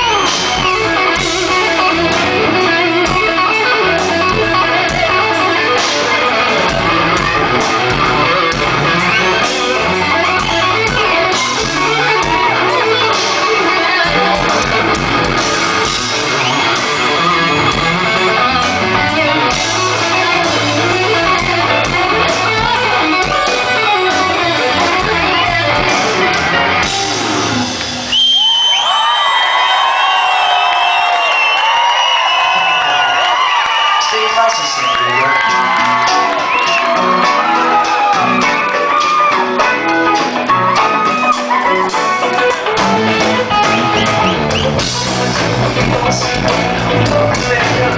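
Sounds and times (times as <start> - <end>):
crowd cheering: 0.0 - 47.9
rock band playing live: 0.0 - 47.9.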